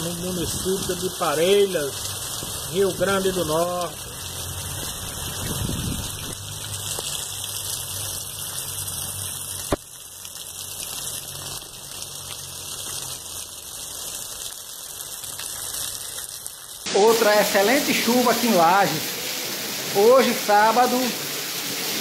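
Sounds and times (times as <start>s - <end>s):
heavy rain on pavement: 0.0s - 22.0s.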